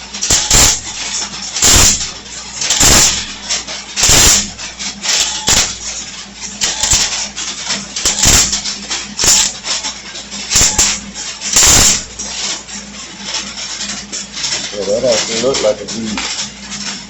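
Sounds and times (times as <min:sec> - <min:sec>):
steady low hum: 0:00.0 - 0:17.0
welding arc crackling: 0:00.0 - 0:17.0.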